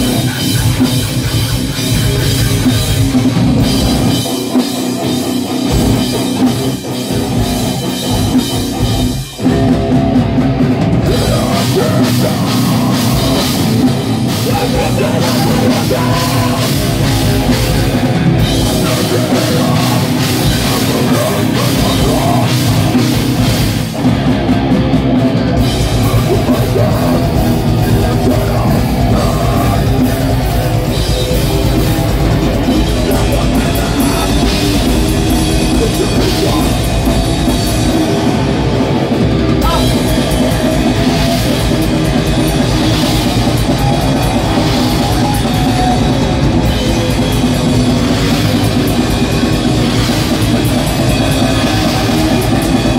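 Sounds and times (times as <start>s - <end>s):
live metal band playing: 0.0s - 52.9s.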